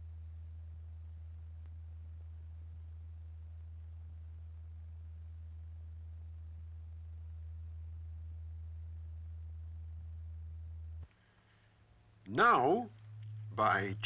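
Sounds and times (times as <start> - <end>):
low sine tone: 0.0 - 11.4, 12.2 - 14.0.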